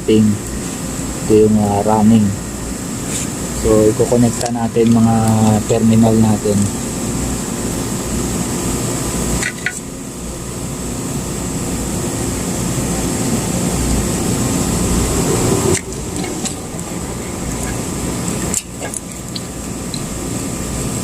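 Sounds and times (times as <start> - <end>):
machinery hum with high whine: 0.0 - 21.0.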